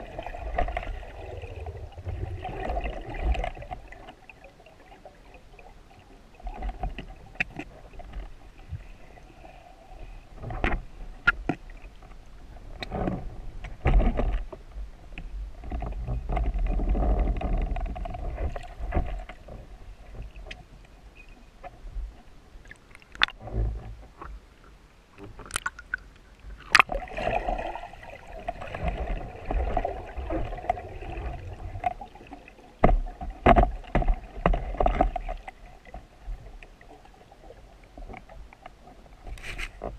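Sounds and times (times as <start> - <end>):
underwater rushing water: 0.0 - 39.9.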